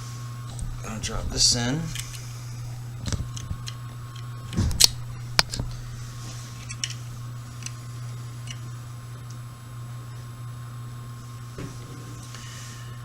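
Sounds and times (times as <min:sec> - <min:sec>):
washing machine hum and whine: 0:00.0 - 0:13.0.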